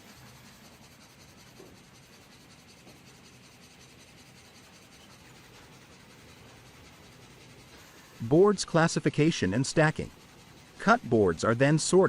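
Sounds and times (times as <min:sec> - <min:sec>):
faint steady rushing noise: 0:00.0 - 0:12.0.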